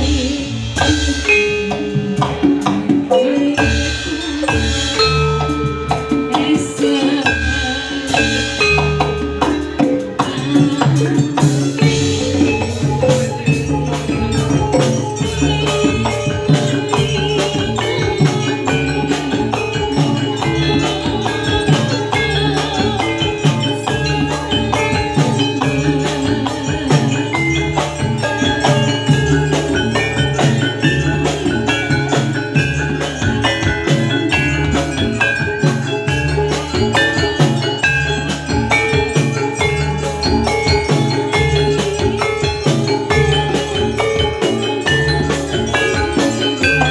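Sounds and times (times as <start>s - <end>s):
drum kit: 0.0s - 46.9s
hand drums: 0.0s - 46.9s
metallophones struck with mallets: 0.0s - 46.9s.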